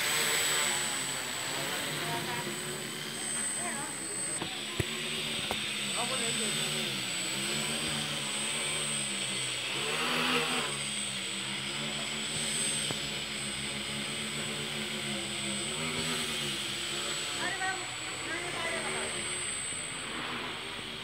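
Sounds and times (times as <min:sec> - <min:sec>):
drone motors and propellers whirring: 0:00.0 - 0:21.0.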